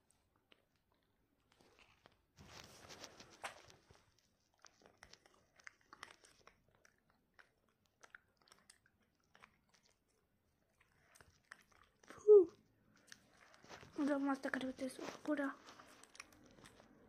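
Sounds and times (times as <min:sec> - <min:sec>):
child chewing gum: 0:00.0 - 0:17.0.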